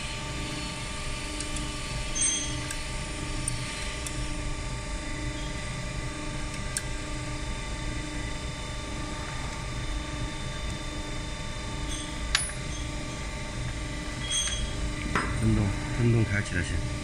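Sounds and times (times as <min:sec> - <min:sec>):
machinery hum: 0:00.0 - 0:17.0.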